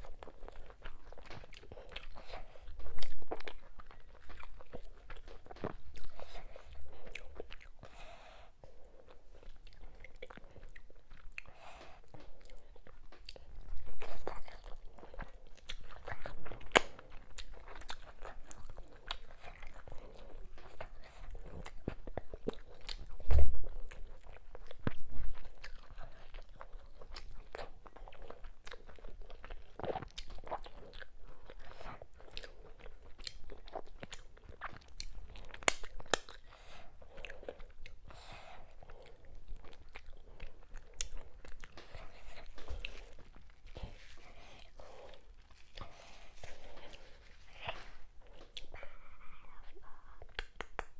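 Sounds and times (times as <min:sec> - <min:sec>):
chewing and lip-smacking: 0:00.0 - 0:50.9.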